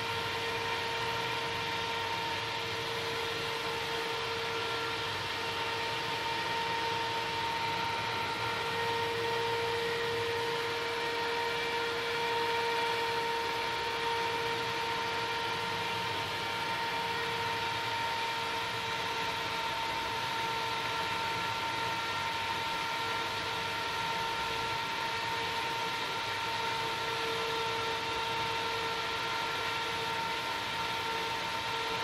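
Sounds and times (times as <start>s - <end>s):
computer fan whirring: 0.0s - 32.0s.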